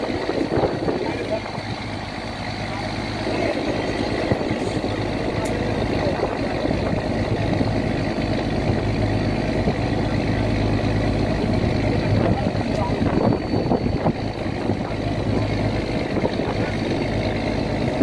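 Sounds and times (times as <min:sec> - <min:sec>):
boat engine humming: 0:00.0 - 0:18.0
water rushing: 0:00.0 - 0:18.0.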